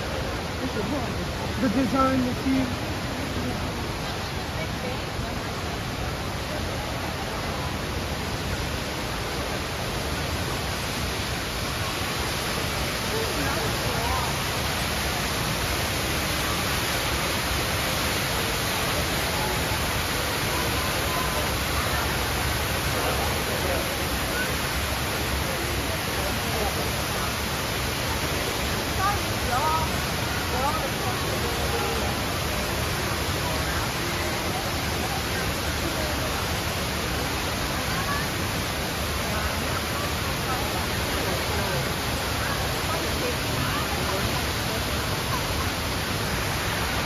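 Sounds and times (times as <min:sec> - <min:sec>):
faint crowd voices: 0:00.0 - 0:47.0
rush of falling water: 0:00.0 - 0:47.0.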